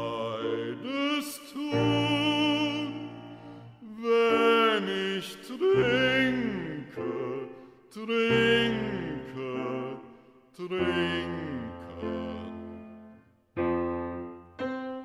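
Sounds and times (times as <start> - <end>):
man singing with vibrato: 0.0 - 13.2.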